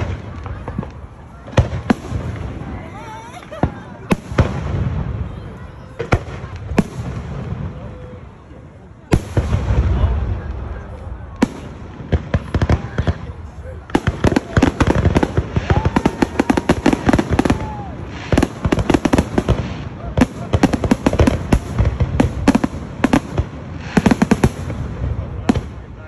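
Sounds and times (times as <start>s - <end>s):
fireworks bursting: 0.0s - 26.0s
fireworks crackling: 0.0s - 26.0s.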